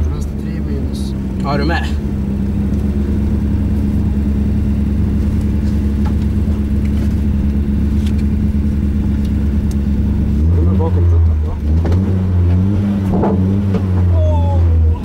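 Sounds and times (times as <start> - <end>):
car engine idling drone: 0.0 - 15.0.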